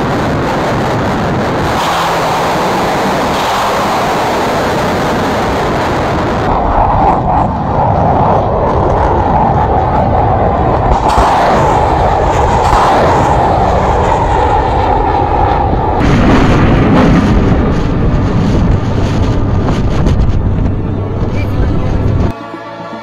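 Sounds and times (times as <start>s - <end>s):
missile rocket motors roaring: 0.0s - 22.3s.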